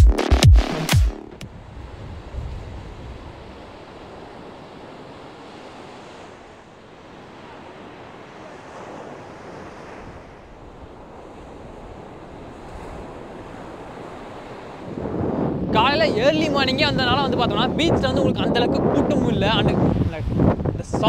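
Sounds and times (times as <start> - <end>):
surf breaking on beach: 0.8 - 21.0.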